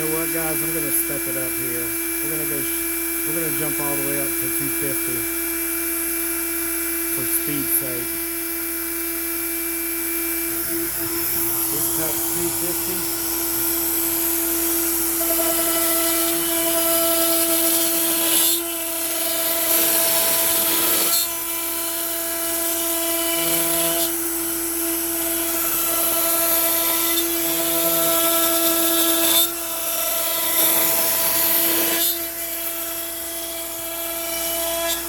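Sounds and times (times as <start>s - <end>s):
router high whine: 0.0s - 34.2s
router bit cutting wood: 0.0s - 35.0s.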